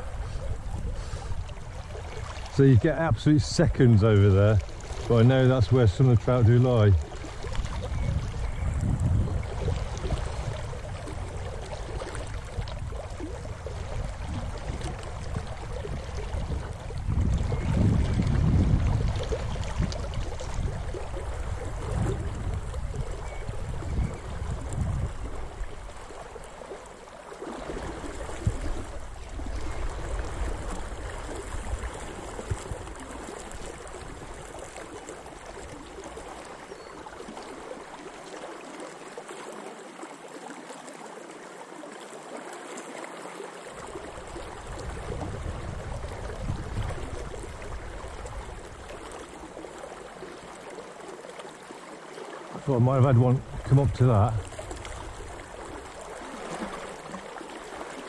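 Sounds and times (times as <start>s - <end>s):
river rushing and gurgling: 0.0s - 58.0s.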